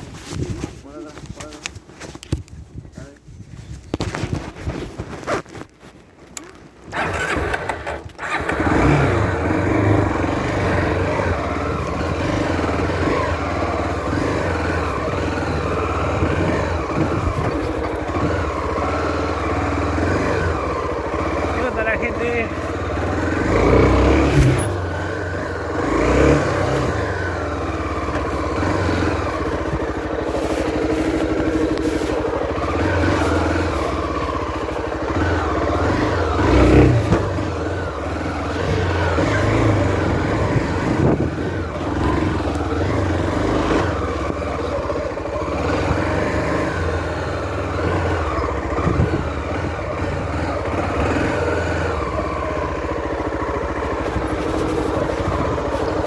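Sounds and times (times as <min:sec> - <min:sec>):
motorcycle engine revving: 0:06.4 - 0:56.0.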